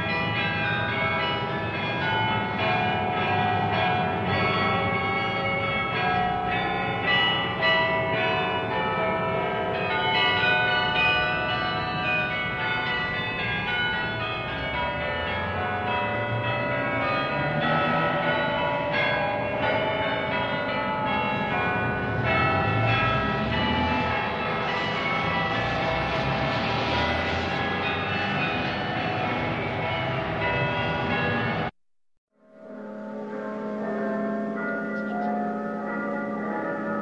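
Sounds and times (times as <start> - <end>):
church bells ringing: 0.0 - 31.7, 32.6 - 37.0.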